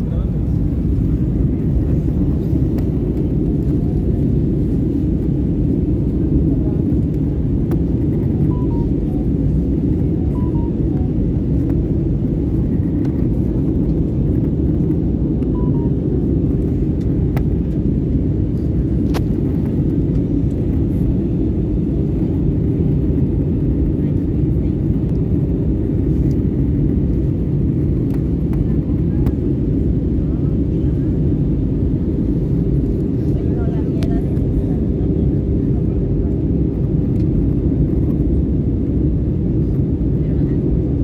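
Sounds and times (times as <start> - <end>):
jet cabin engine rumble: 0.0 - 41.0.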